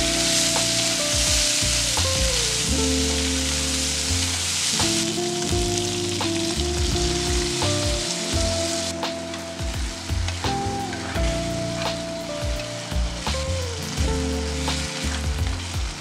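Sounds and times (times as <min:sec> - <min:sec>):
background music: 0:00.0 - 0:16.0
food sizzling in a pan: 0:00.0 - 0:16.0.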